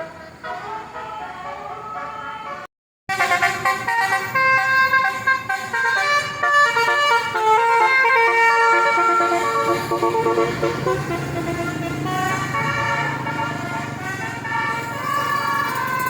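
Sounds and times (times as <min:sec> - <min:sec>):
multi-tone vehicle horn tune: 0:00.0 - 0:16.0.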